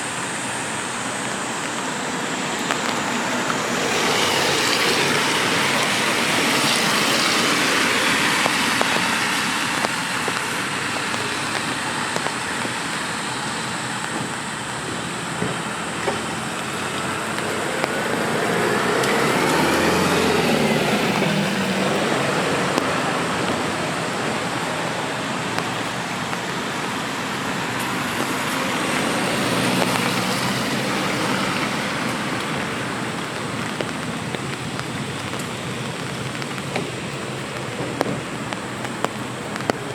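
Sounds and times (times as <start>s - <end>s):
rain on a wet street: 0.0s - 39.9s
raindrops ticking: 0.0s - 39.9s
tyre hiss of traffic: 0.0s - 39.9s.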